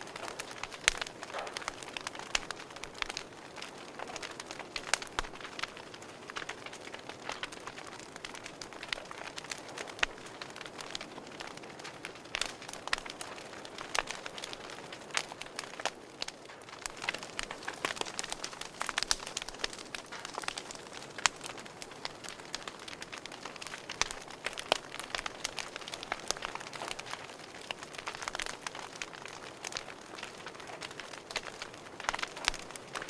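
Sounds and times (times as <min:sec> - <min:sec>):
steady fire hiss: 0:00.0 - 0:33.0
wood fire crackling and popping: 0:00.0 - 0:33.0.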